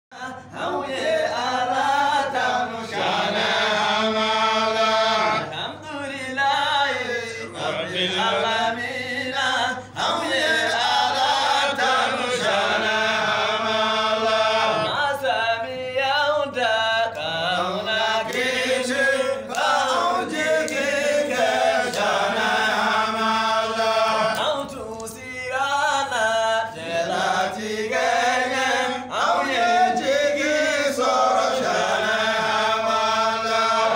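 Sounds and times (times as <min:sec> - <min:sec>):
men chanting: 0:00.1 - 0:33.9.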